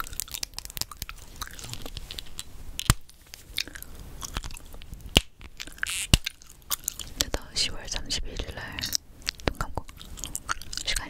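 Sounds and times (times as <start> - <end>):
gum chewing clicks: 0.0 - 7.4, 8.0 - 11.0.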